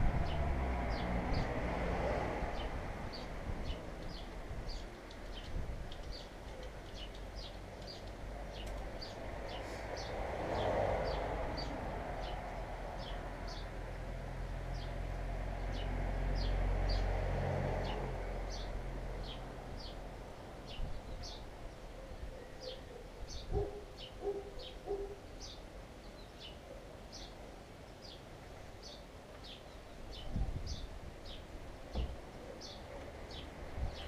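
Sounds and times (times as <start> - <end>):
distant traffic rumble: 0.0 - 34.0.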